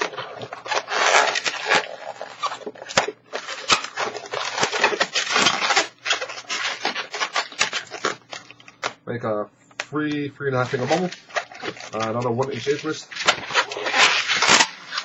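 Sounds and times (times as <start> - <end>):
balloon squeaking and rubbing: 0.0 - 8.3, 10.6 - 15.0.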